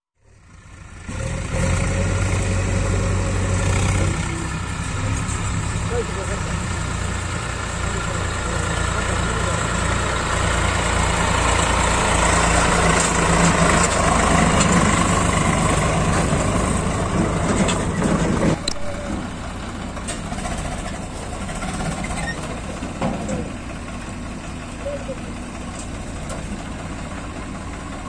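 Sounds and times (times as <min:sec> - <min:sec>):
tractor diesel engine running: 0:00.2 - 0:28.0.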